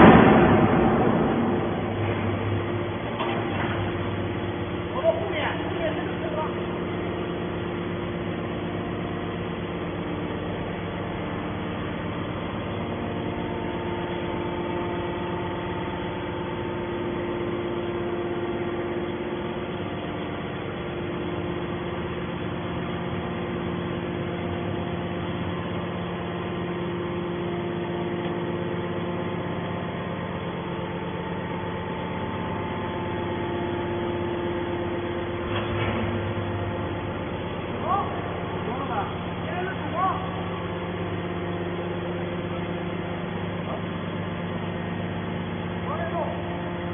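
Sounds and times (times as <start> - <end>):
hydraulic baler mechanical drone: 0.0 - 46.9.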